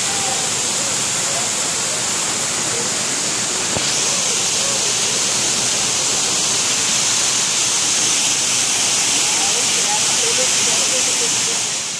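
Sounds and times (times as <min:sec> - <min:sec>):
waterfall pouring: 0:00.0 - 0:11.9.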